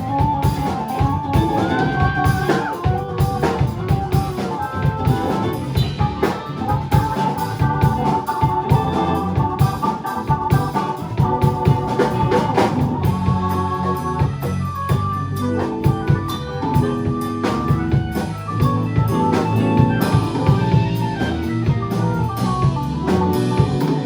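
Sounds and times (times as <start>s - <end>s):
drum kit keeping time: 0.0s - 24.0s
organ-like keyboard chords: 0.0s - 24.0s.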